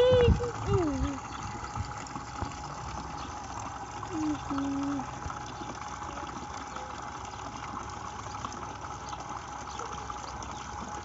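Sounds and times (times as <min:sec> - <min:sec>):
faint steady hum: 0:00.0 - 0:11.0
water gushing from a pipe: 0:00.0 - 0:11.0.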